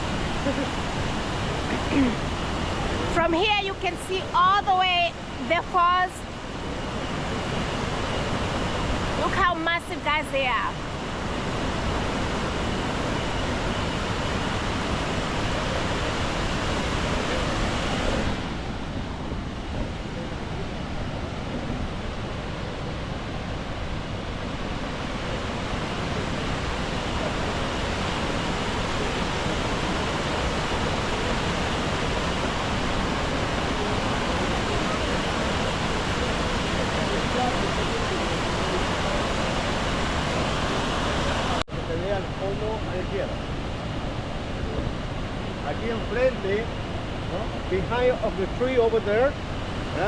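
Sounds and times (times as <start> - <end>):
waterfall roaring: 0.0 - 50.0.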